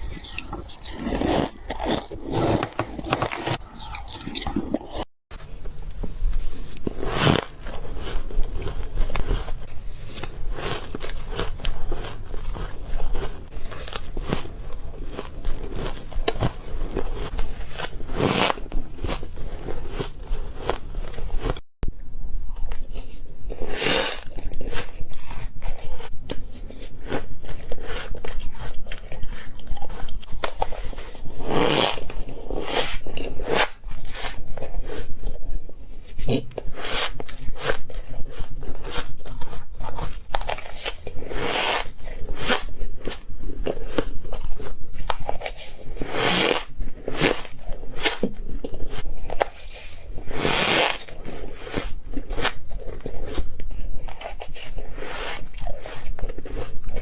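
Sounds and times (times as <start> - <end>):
ice being chewed and crunched: 0.0 - 21.6, 24.6 - 57.0.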